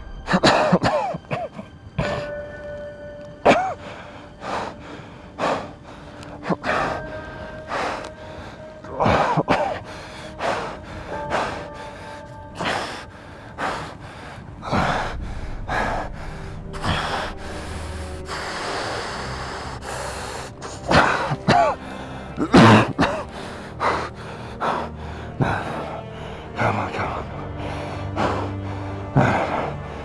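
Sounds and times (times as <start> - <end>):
low musical score: 0.0 - 30.0.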